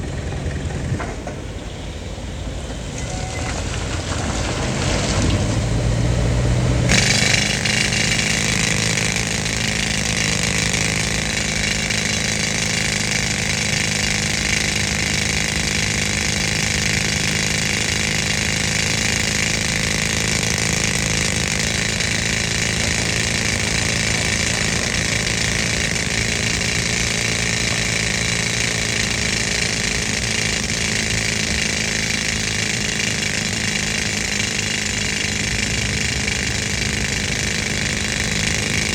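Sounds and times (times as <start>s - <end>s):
air compressor engine running: 0.0s - 38.9s
pneumatic rock drill hissing: 0.0s - 38.9s.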